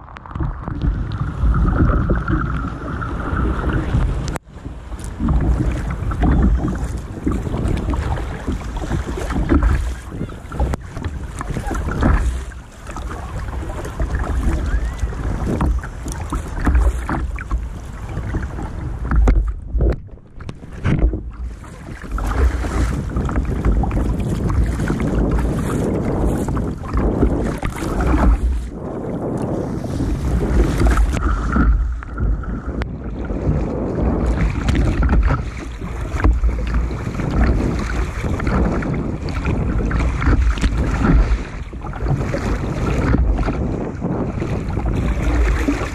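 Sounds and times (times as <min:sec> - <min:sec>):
water splashing against kayak: 0:00.0 - 0:45.9
wind rumble on microphone: 0:00.0 - 0:45.9.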